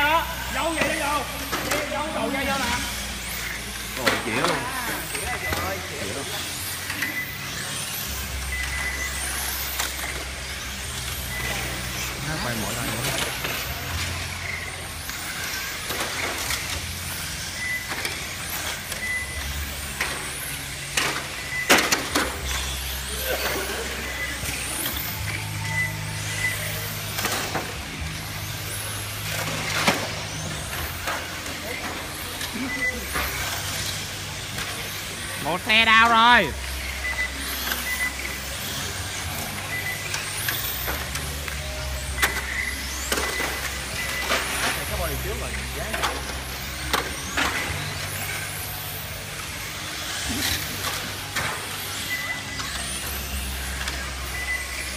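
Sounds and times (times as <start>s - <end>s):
rc car motors whining: 0.0s - 54.9s.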